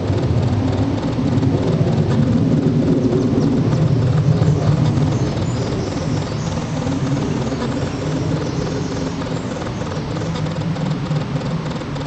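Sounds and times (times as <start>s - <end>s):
fighter jets roaring overhead: 0.0s - 12.0s.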